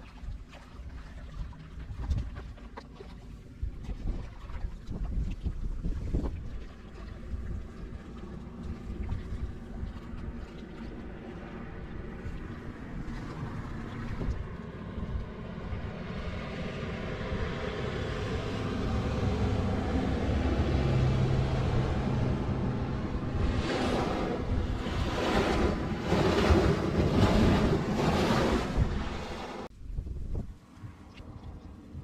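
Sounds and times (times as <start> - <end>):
boat wake washing against shore: 0.0 - 29.7
boat engine humming: 0.0 - 29.8.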